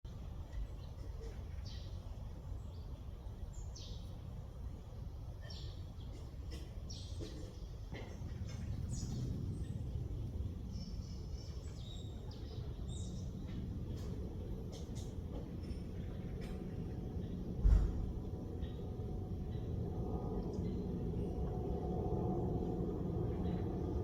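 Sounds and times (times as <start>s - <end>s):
low background rumble: 0.1s - 24.0s
wild birds chirping: 0.5s - 24.0s.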